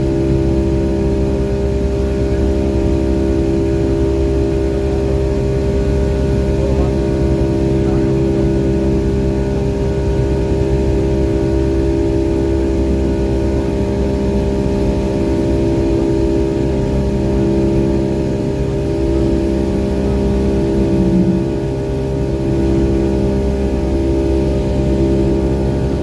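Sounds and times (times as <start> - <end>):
jet engine cabin noise: 0.0 - 26.0.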